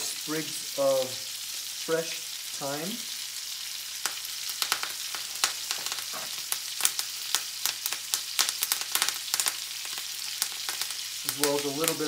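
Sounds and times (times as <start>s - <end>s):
steaks sizzling in skillet: 0.0s - 12.0s.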